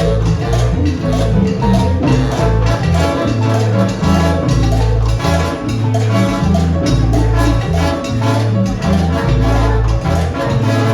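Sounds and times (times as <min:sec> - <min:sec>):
busy percussion: 0:00.0 - 0:10.9
live salsa band: 0:00.0 - 0:10.9
stepping bass line: 0:00.0 - 0:10.9.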